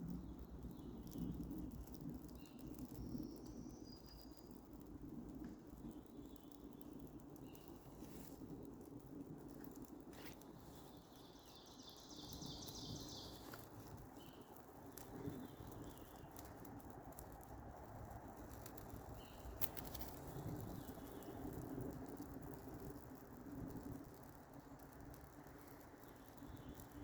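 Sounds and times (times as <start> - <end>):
faint ticks: 0.0 - 27.0.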